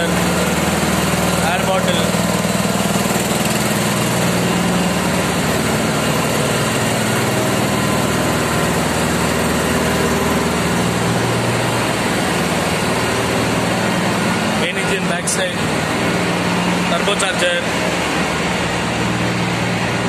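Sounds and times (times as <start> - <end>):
engine room machinery roar: 0.0 - 20.0.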